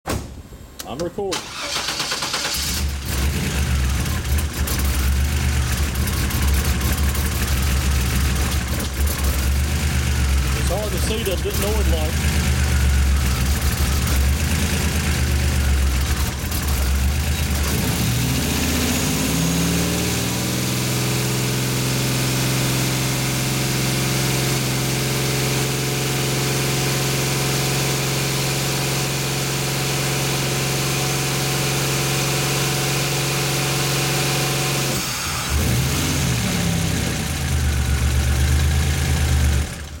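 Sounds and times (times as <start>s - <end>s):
misfiring car engine: 0.6s - 40.0s.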